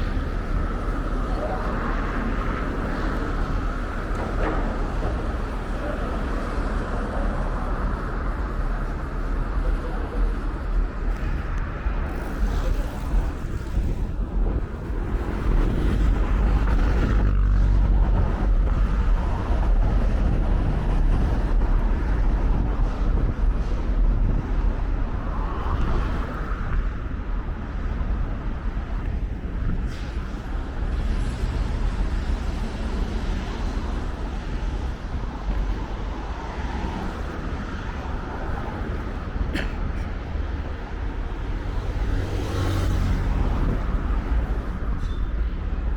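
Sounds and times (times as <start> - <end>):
low traffic rumble: 0.0 - 45.9
vehicles passing: 0.0 - 45.9.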